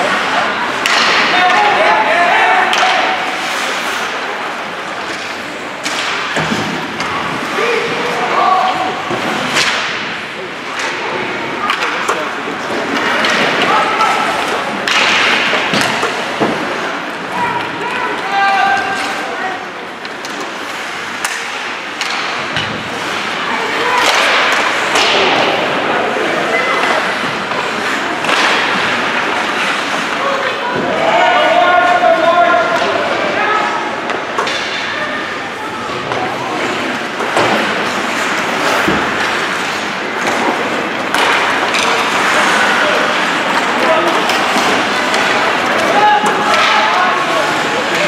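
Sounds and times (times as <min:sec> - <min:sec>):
background chatter: 0:00.0 - 0:48.0.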